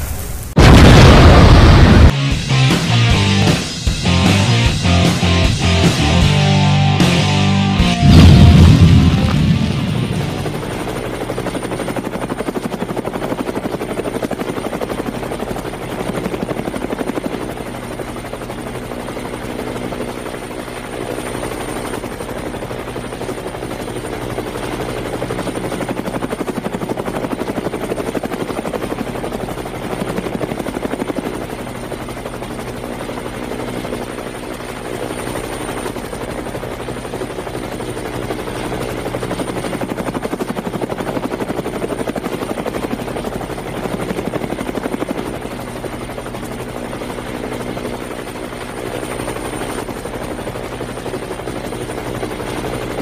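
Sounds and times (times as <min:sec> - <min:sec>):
drone propellers humming: 0:00.6 - 0:53.0.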